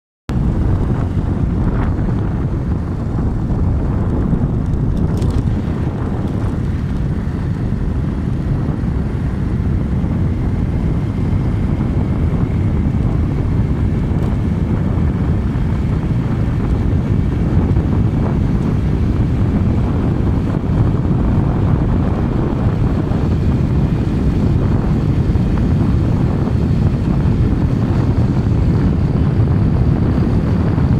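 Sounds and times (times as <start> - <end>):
vehicle running on road: 0.3 - 30.9
wind buffeting microphone: 0.3 - 30.9.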